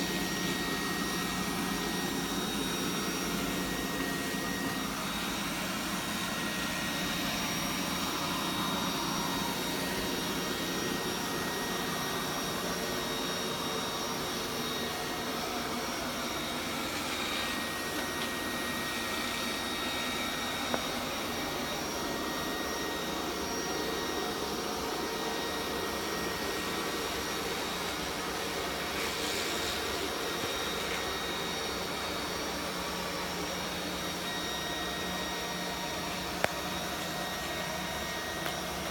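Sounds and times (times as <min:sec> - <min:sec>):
robot vacuum running: 0:00.0 - 0:38.9.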